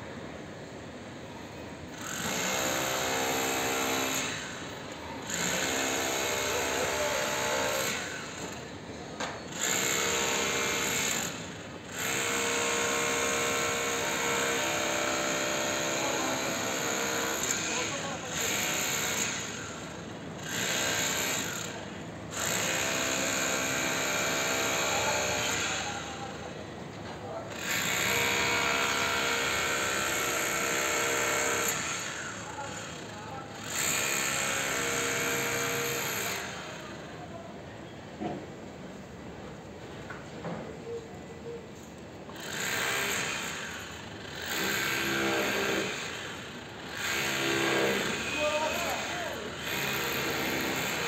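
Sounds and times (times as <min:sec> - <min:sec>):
construction machinery whirring and rattling: 0:00.0 - 0:51.0.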